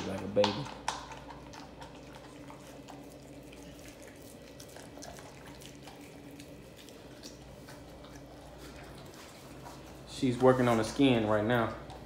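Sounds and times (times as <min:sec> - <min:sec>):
dog licking and gnawing: 0:00.0 - 0:12.0.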